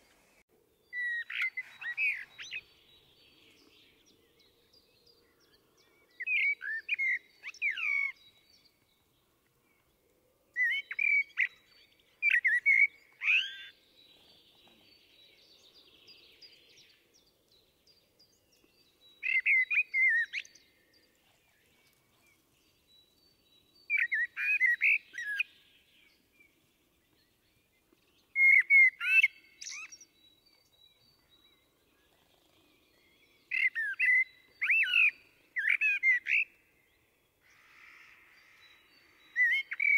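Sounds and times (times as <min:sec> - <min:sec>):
blackbird singing: 0:00.8 - 0:09.9, 0:10.5 - 0:39.9.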